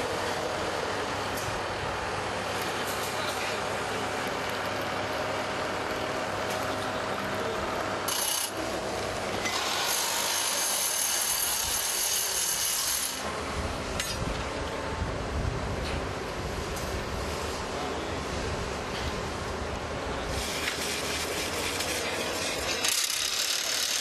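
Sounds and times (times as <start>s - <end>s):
diesel engine and hydraulics: 0.0s - 24.0s.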